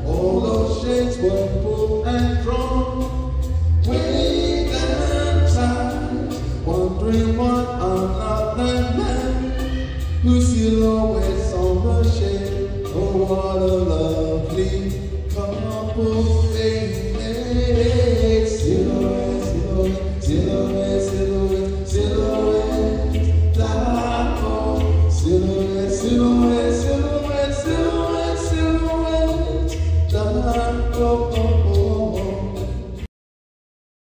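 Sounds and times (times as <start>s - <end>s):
choir-like vocal harmonies: 0.0s - 33.1s
low pulsing bass: 0.0s - 33.1s
man singing into a microphone: 0.0s - 33.1s.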